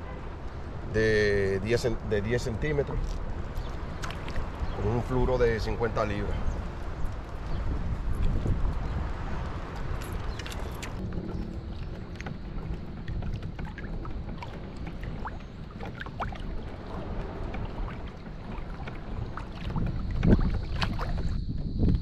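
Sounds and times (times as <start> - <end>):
water lapping against hull: 0.0 - 22.0
wind on microphone: 0.0 - 22.0.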